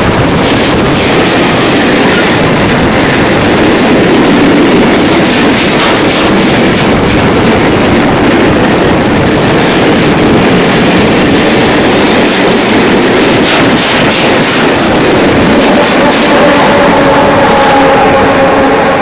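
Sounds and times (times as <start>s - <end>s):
freight train rolling past: 0.0s - 19.0s
wheels clacking on rails: 0.0s - 19.0s.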